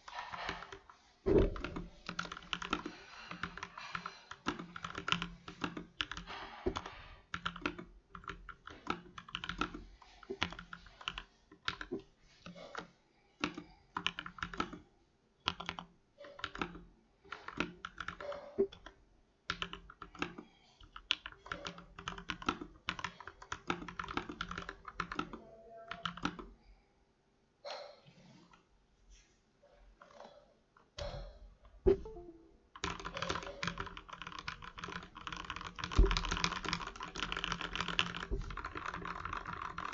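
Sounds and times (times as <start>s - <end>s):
mechanical keyboard typing: 1.4s - 14.8s, 15.5s - 26.5s, 31.9s - 39.9s.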